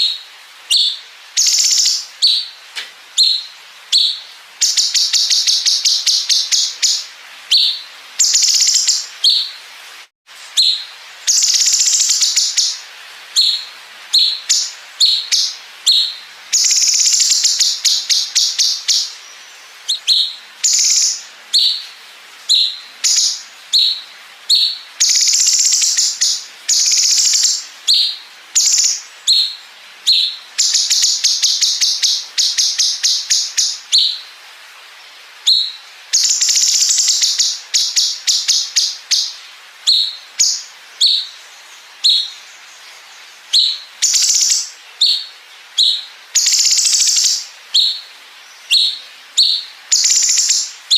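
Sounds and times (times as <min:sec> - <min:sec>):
bird chirping: 0:00.0 - 0:09.7, 0:10.4 - 0:34.3, 0:35.4 - 0:50.9.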